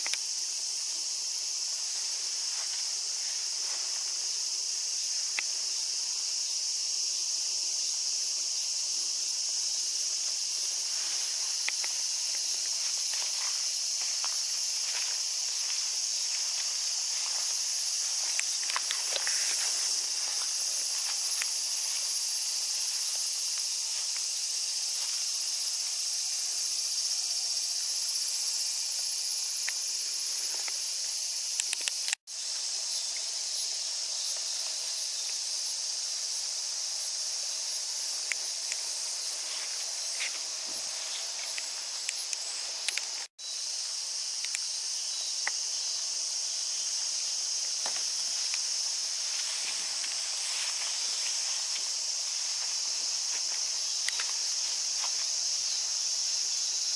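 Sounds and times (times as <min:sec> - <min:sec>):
cicada chorus: 0:00.0 - 0:56.9.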